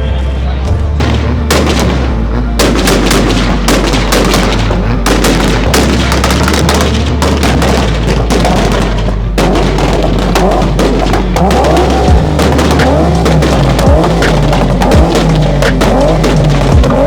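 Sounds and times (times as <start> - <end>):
music with heavy bass: 0.0 - 17.0
car exhaust backfiring: 0.8 - 17.0.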